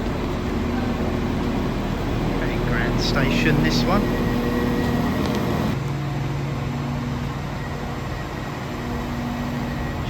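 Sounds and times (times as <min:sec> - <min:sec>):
diesel train engine idling: 0:00.0 - 0:10.0.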